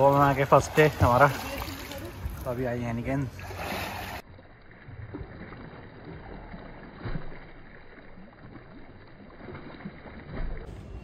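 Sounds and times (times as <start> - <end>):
water splashing from swimmers: 0.0 - 11.0.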